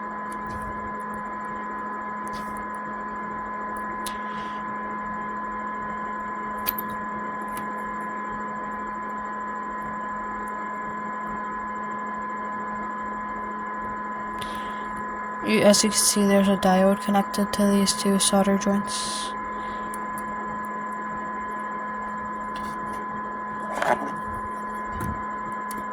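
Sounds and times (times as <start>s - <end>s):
electrical hum: 0.0s - 10.1s, 12.3s - 25.9s.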